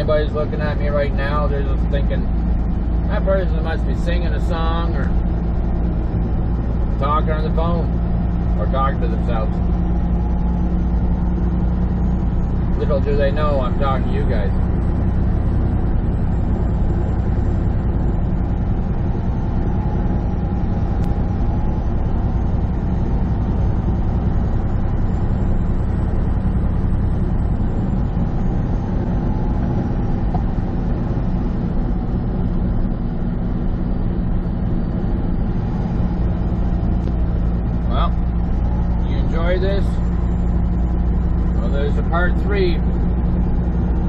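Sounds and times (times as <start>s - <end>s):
diesel truck engine running: 0.0s - 44.0s
road noise: 0.0s - 44.0s.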